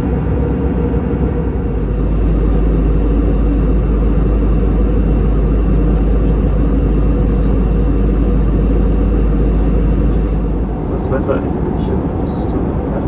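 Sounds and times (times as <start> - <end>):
airplane cabin rumble in flight: 0.0 - 13.0.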